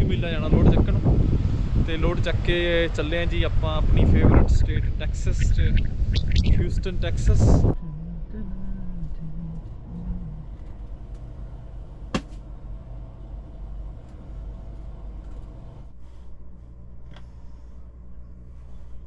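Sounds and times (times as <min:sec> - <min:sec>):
truck engine rumbling: 0:00.0 - 0:15.8.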